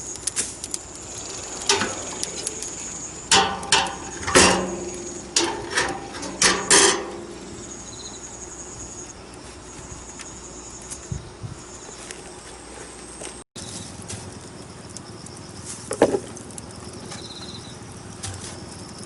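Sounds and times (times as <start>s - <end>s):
logs crackling in fire: 0.0s - 19.0s.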